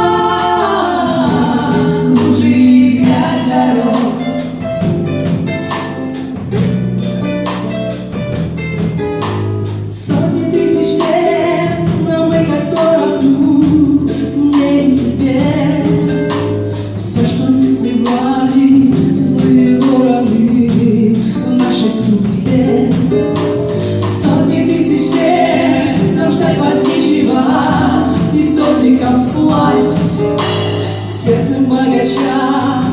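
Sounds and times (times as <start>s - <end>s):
women singing in harmony: 0.0s - 4.7s, 9.9s - 16.4s, 17.0s - 32.9s
pop band playing: 0.0s - 32.9s.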